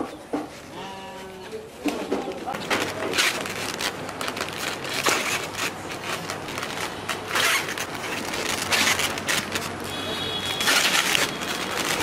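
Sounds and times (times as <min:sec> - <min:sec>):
styrofoam boxes scraping: 0:00.5 - 0:12.0
plastic sack rustling: 0:01.7 - 0:12.0.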